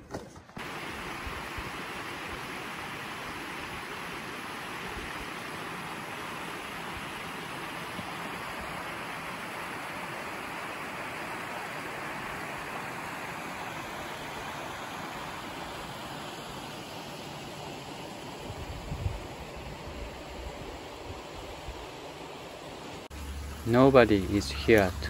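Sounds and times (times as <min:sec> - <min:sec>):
mountain stream rushing: 0:00.6 - 0:25.0.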